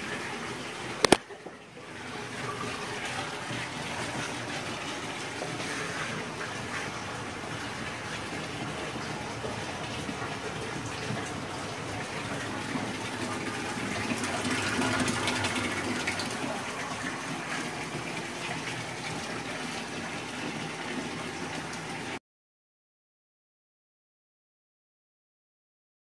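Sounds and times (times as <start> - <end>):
water gushing and splashing: 0.0 - 22.2.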